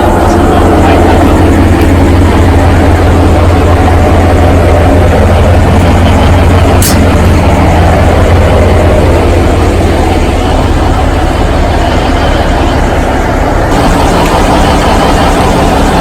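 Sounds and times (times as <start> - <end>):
train diesel engine hum: 0.0 - 16.0.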